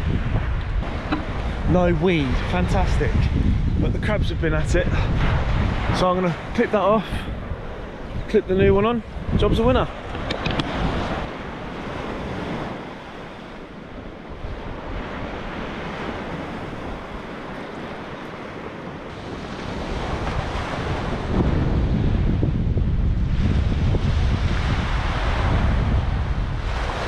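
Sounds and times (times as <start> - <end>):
sea waves washing onto beach: 0.0 - 27.0
wind buffeting microphone: 0.0 - 27.0.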